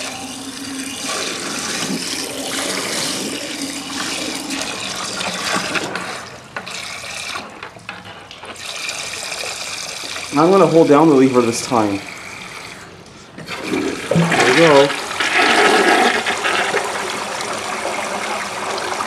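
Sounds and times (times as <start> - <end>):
water swirling in toilet bowl: 0.0 - 19.0.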